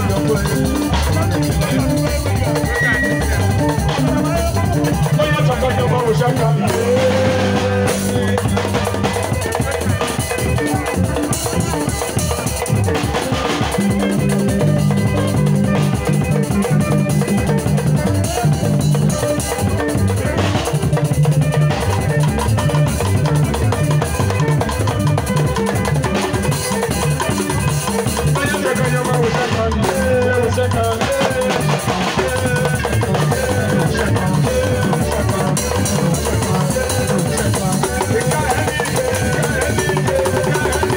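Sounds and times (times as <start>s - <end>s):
bass line: 0.0s - 40.9s
drum kit: 0.0s - 40.9s
mid range melody line: 0.0s - 40.9s.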